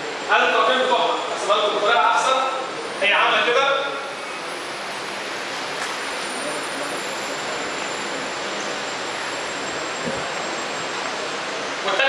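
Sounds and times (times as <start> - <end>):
room noise hiss: 0.0 - 12.0.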